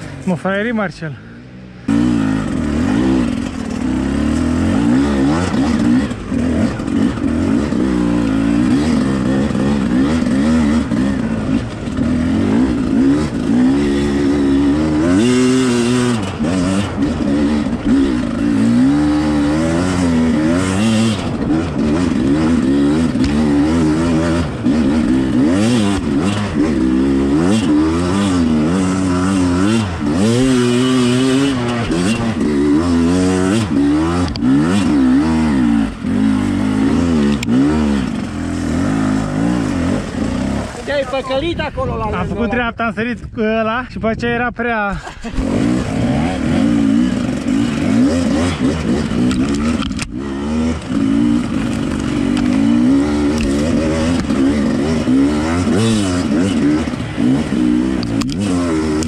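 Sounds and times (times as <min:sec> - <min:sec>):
dirt bike engine revving: 0:00.0 - 0:42.7, 0:44.9 - 0:59.0.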